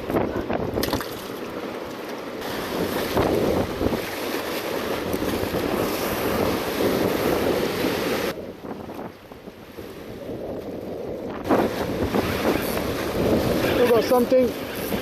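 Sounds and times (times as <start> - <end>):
ocean surf against rocks: 0.0 - 15.0
wind buffeting microphone: 0.0 - 15.0.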